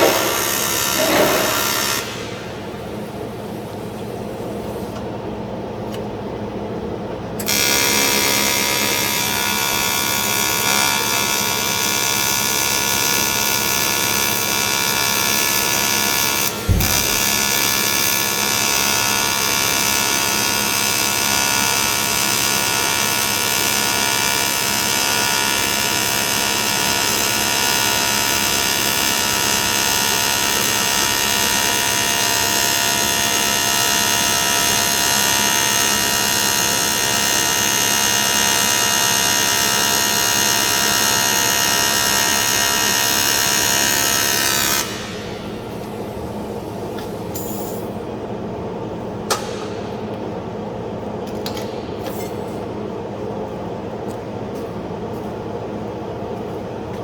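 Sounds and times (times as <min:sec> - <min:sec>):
welding arc buzzing: 0:00.0 - 0:05.0, 0:07.4 - 0:48.2.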